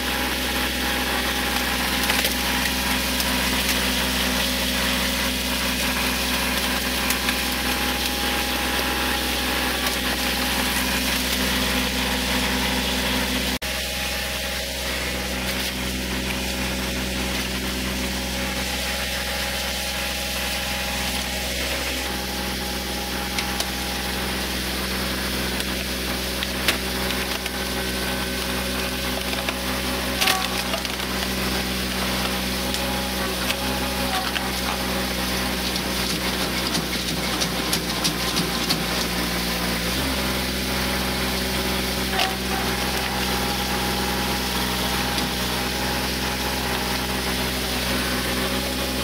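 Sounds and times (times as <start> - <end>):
tractor engine idling: 0.0 - 49.0.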